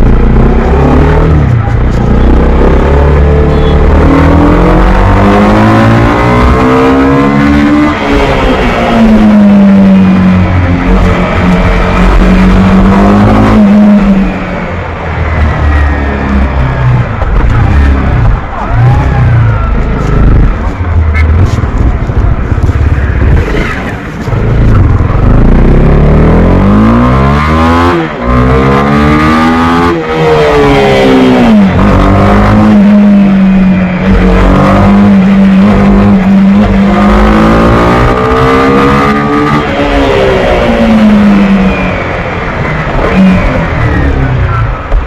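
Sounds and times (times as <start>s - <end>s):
motorcycle engine accelerating: 0.0s - 45.0s.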